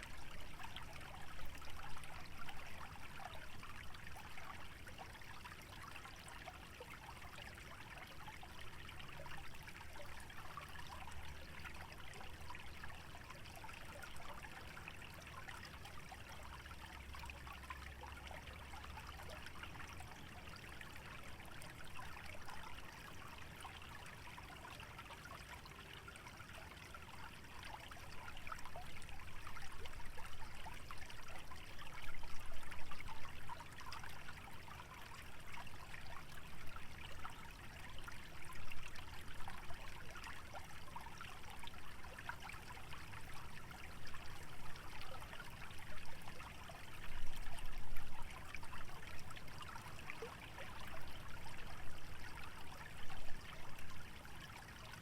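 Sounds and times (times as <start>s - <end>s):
stream trickling and bubbling: 0.0s - 55.0s.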